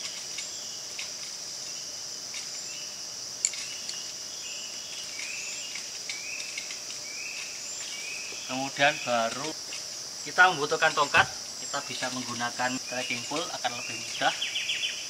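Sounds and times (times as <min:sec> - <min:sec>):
insects droning: 0:00.0 - 0:15.0
bird chirping: 0:02.5 - 0:15.0.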